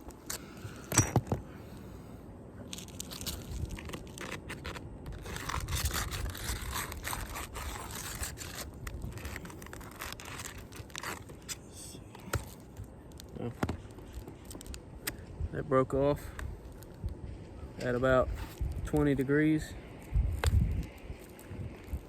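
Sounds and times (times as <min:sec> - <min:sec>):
shingle scraping and crunching: 0:00.0 - 0:15.4, 0:16.1 - 0:22.0.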